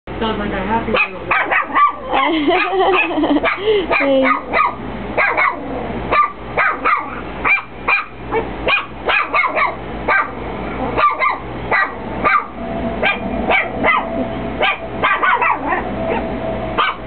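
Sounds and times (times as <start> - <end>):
small dog barking: 0.9 - 17.0.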